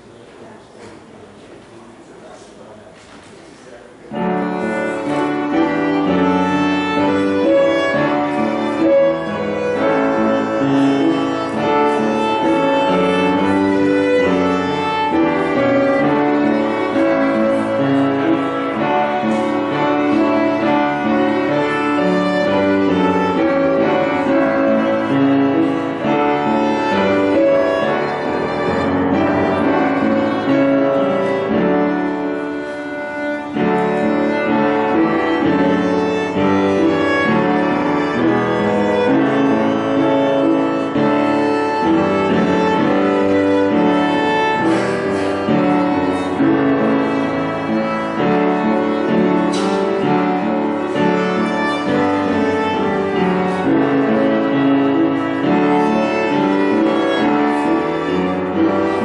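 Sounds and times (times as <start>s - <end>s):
piano accompaniment: 0.0s - 59.0s
violin playing slow melody: 4.1s - 59.0s.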